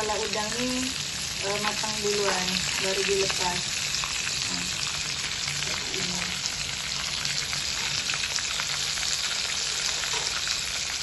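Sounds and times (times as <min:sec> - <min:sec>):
shrimp deep-frying in oil: 0:00.0 - 0:11.0.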